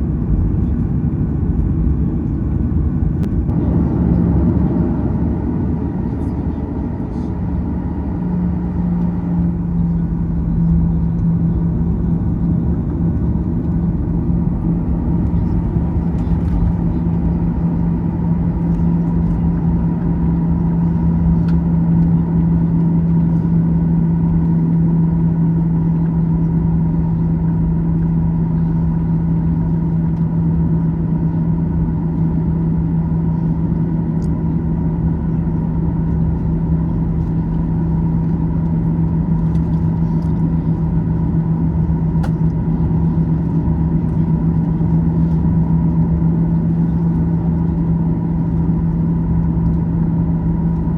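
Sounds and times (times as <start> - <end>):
jet engines idling: 0.0 - 25.0, 32.8 - 50.9.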